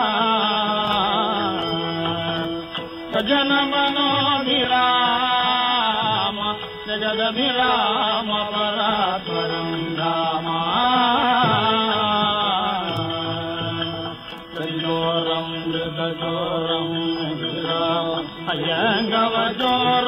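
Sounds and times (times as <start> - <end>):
man singing ornamented melody: 0.0 - 20.0.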